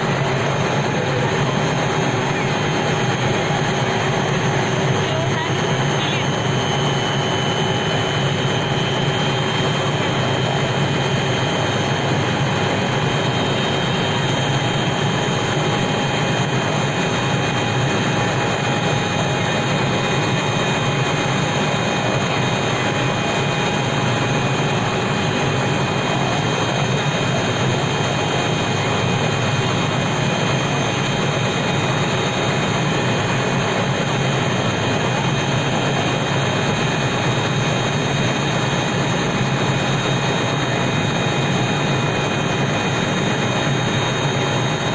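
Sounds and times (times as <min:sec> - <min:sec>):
helicopter engine and rotor: 0:00.0 - 0:44.9.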